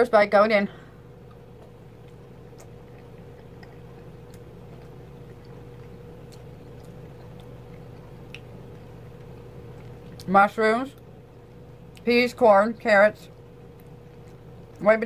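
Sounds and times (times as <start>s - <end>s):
steady low hum: 0.0s - 15.0s
person chewing food: 0.9s - 12.1s, 13.3s - 15.0s.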